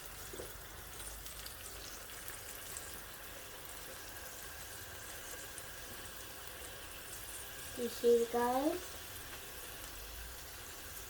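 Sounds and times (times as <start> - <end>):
frying sizzle with crackles: 0.0 - 11.0.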